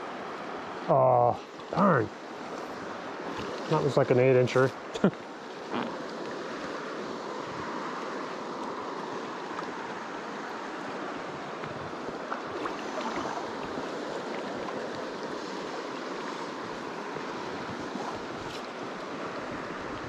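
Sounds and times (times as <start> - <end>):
creek water rushing over stones: 0.0 - 20.0.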